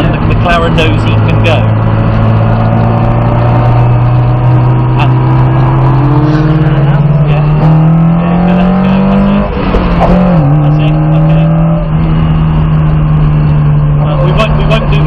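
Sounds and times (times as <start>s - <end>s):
car engine under load: 0.0s - 15.0s.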